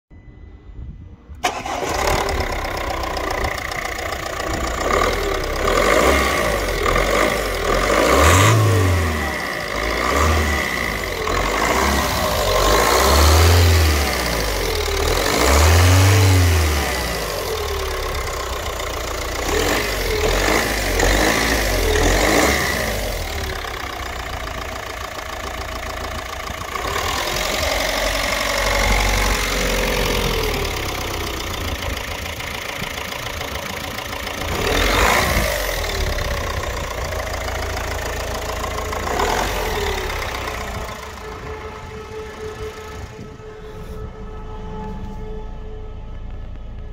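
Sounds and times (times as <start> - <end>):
diesel engine starting and revving: 1.2 - 46.9.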